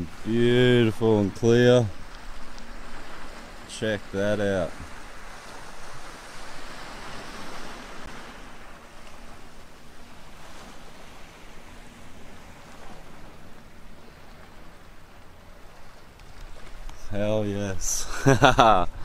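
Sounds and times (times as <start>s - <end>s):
sea washing against shore: 0.0s - 19.0s.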